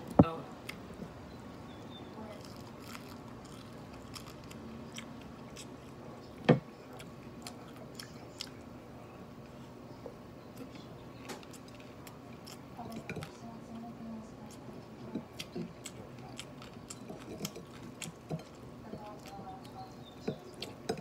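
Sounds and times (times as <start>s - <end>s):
person chewing food: 1.8s - 9.8s, 10.5s - 21.0s.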